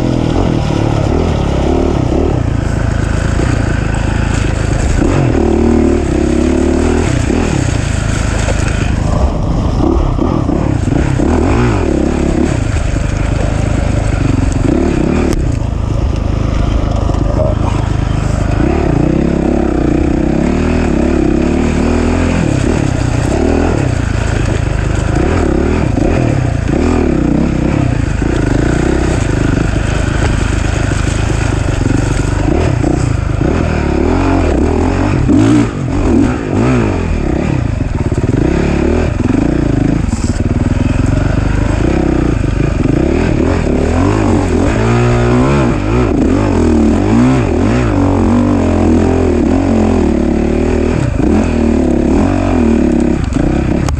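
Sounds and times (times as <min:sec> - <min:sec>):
racing engine revving: 0:00.0 - 0:53.9.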